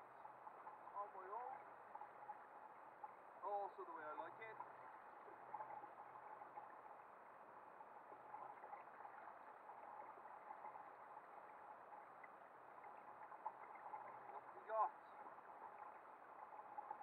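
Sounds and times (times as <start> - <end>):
water lapping against hull: 0.0 - 17.0.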